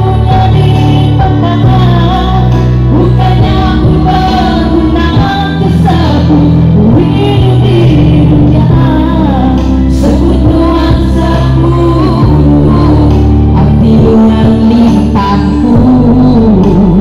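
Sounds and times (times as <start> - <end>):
loud backing track: 0.0 - 17.0
women singing pop song: 0.0 - 17.0.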